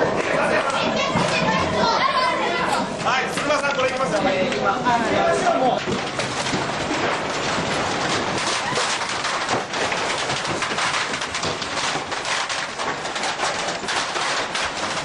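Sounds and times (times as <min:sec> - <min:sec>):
metal shelving rattling: 0:00.0 - 0:15.0.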